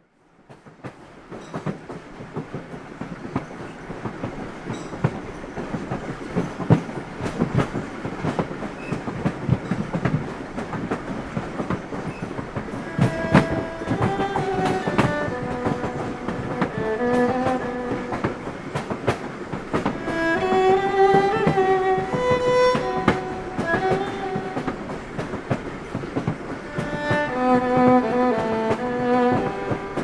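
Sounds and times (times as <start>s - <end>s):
train wheels clickety-clack on rails: 0.4s - 30.0s.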